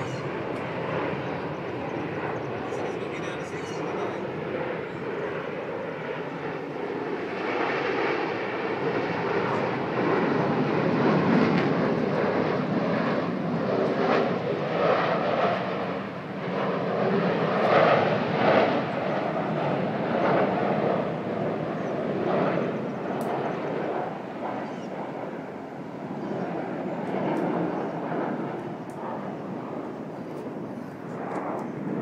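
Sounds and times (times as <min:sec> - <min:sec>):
jet planes flying low overhead: 0:00.0 - 0:32.0.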